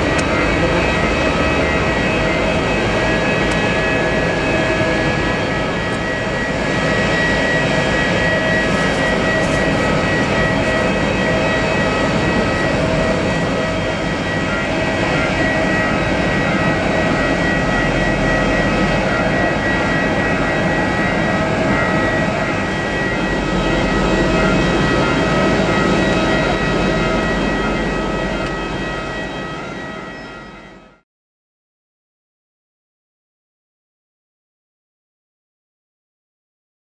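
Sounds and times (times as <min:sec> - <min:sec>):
auxiliary power unit jet whine: 0:00.0 - 0:31.0.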